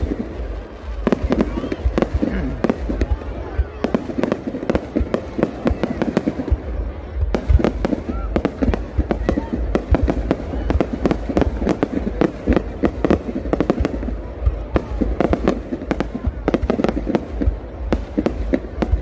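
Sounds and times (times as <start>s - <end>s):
fireworks cracking and banging: 0.0s - 19.0s.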